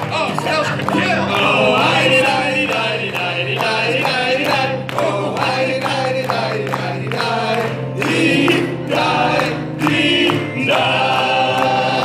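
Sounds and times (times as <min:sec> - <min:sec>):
instrumental accompaniment: 0:00.0 - 0:12.0
group singing together: 0:00.7 - 0:12.0.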